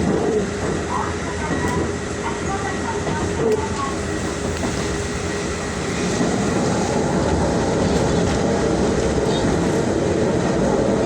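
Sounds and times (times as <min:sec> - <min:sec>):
diesel railcar rumbling: 0:00.0 - 0:11.0.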